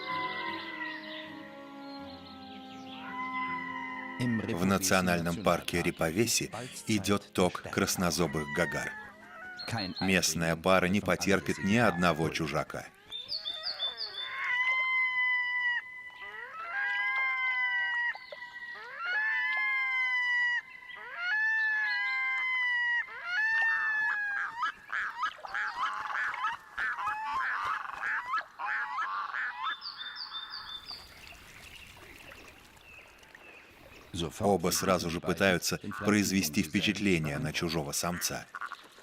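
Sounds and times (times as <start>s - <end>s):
loons calling: 0.0s - 31.2s, 31.9s - 39.0s.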